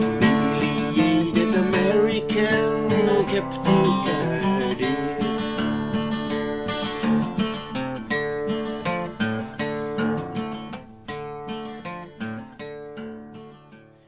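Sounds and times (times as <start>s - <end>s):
strummed acoustic guitar folk song: 0.0s - 14.0s.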